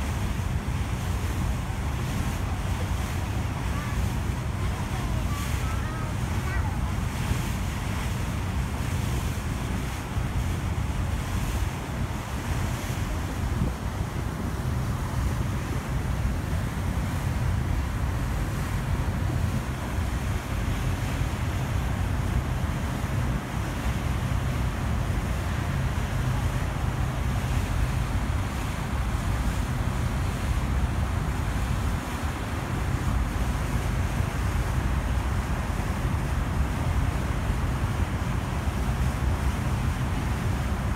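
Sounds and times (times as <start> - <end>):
ship engine rumble: 0.0 - 40.9
wind and water hissing: 0.0 - 40.9.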